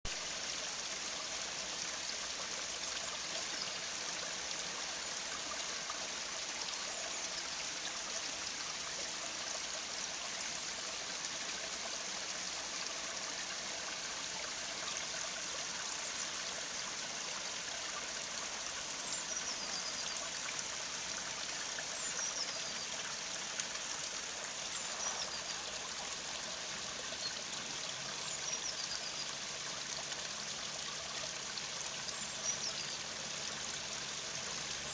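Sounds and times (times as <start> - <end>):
stream trickling over rocks: 0.1 - 34.9.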